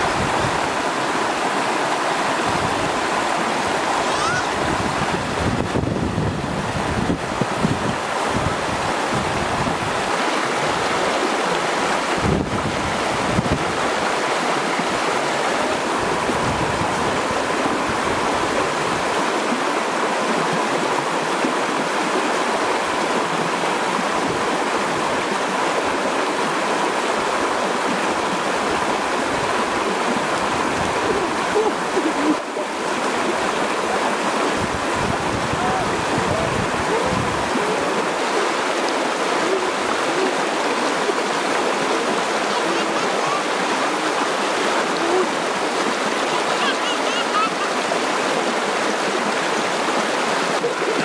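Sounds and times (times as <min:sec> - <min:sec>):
river rushing over rocks: 0:00.0 - 0:51.0.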